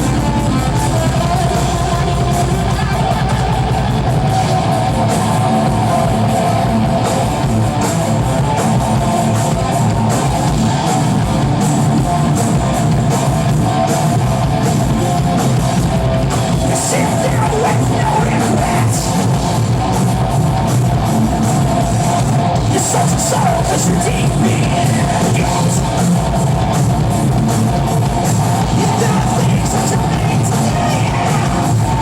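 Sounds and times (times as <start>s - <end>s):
bass guitar: 0.0s - 32.0s
distorted electric guitar: 0.0s - 32.0s
drum kit: 0.0s - 32.0s.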